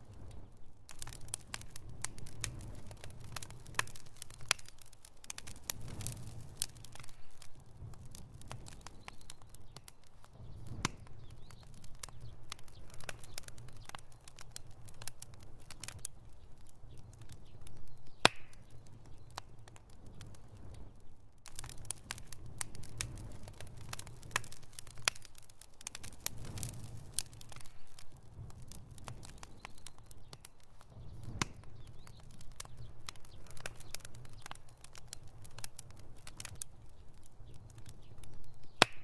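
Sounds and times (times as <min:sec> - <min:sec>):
bonfire crackling: 0:00.0 - 0:39.0
low fire rumble: 0:00.0 - 0:39.0
sharp fire pops: 0:00.0 - 0:39.0.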